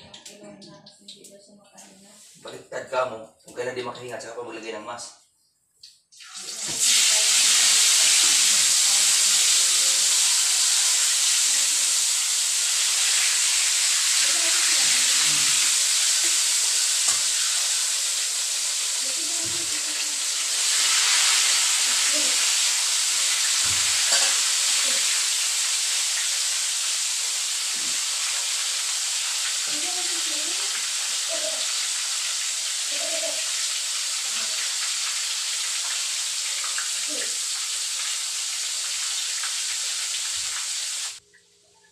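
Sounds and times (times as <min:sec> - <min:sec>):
food sizzling in hot oil: 0:05.8 - 0:41.2.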